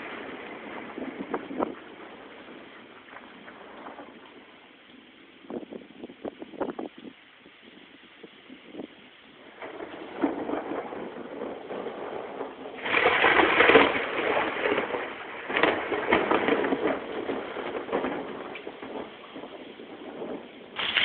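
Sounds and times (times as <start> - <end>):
thunder rolling and crackling: 0.0 - 21.0.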